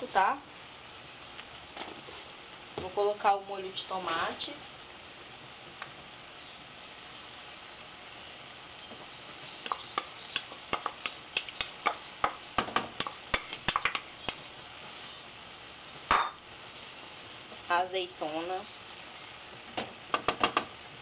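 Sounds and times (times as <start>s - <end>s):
pot hissing on stove: 0.0s - 21.0s.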